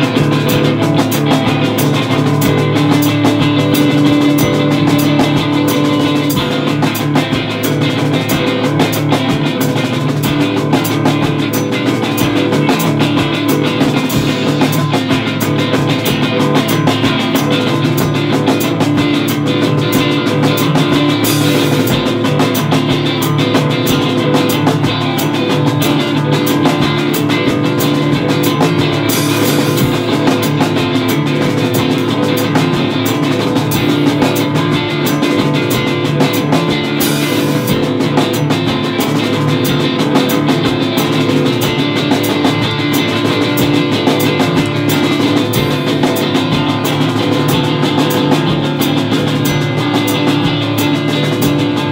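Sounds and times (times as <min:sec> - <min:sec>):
drum and cymbal hits: 0:00.0 - 0:51.9
electric guitar: 0:00.0 - 0:51.9
rock band playing live: 0:00.0 - 0:51.9.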